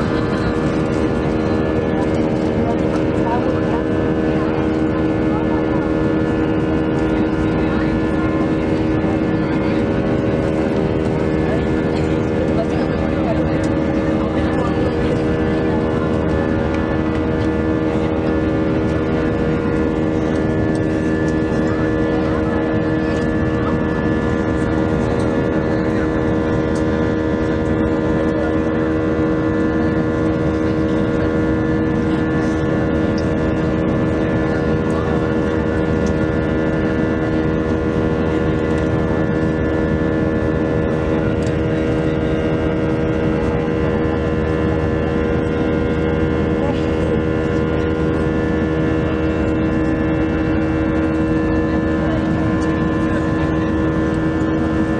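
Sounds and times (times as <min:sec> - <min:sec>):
jet engines from inside cabin: 0:00.0 - 0:54.9.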